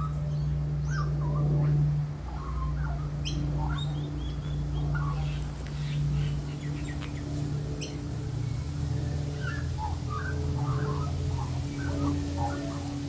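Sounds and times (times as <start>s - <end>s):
magpies warbling: 0.0s - 13.0s
steady low hum: 0.0s - 13.0s.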